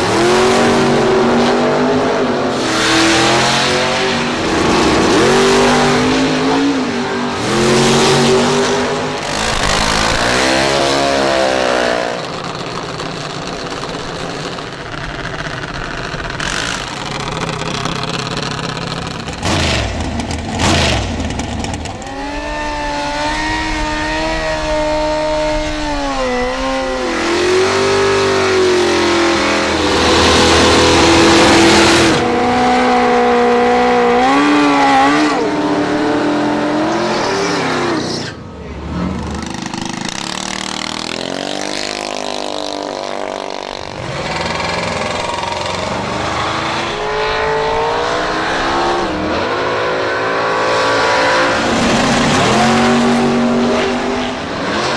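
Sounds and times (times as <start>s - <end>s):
drag racing car engines revving: 0.0s - 54.9s
loud rushing: 0.0s - 54.9s.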